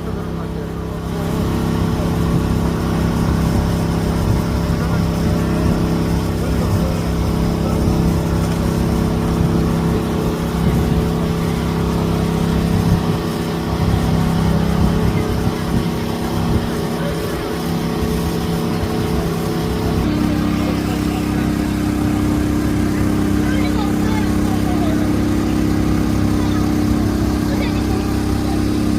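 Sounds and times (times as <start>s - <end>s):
crowd voices: 0.0s - 28.9s
road traffic hum: 0.0s - 28.9s.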